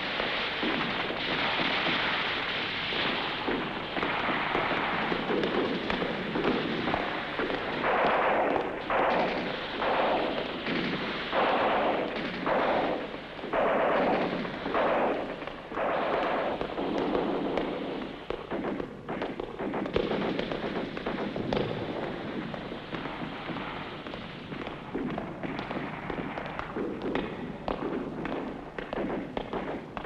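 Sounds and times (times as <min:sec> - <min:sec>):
gunfire bursts: 0:00.0 - 0:30.0.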